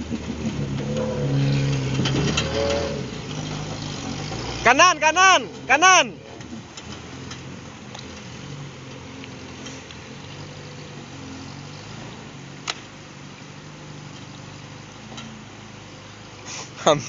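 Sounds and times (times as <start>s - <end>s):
car engine running at low revs: 0.0s - 17.0s
river water rushing: 0.0s - 17.0s.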